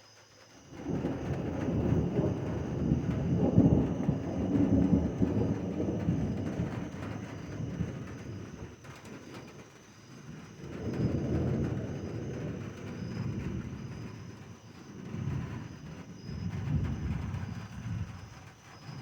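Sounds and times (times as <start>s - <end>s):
thunder rumbling: 0.7s - 19.0s.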